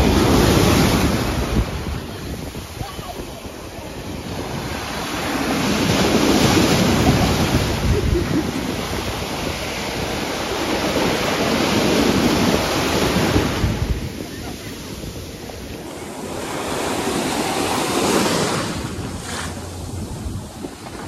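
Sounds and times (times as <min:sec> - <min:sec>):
surf breaking in shallows: 0:00.0 - 0:21.0.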